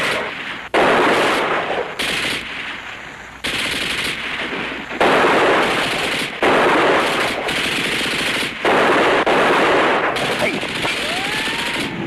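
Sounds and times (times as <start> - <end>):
machine-gun fire in bursts: 0.0 - 12.0.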